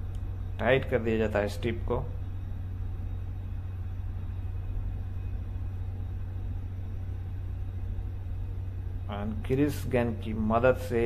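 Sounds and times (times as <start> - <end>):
machinery humming and rumbling: 0.0 - 11.0.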